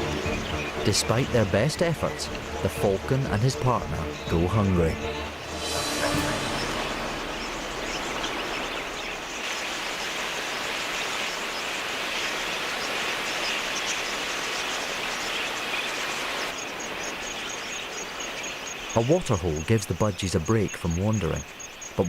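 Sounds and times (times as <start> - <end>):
flock of birds twittering: 0.0 - 22.0.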